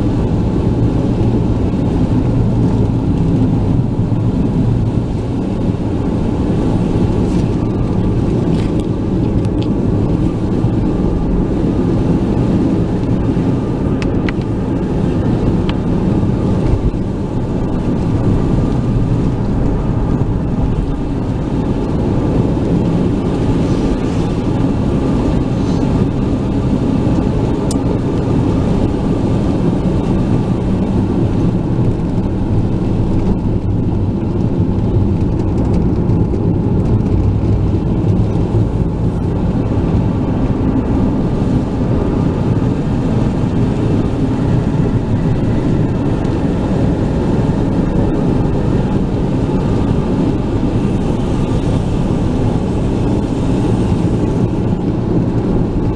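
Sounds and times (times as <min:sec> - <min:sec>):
car road noise: 0:00.0 - 0:55.9.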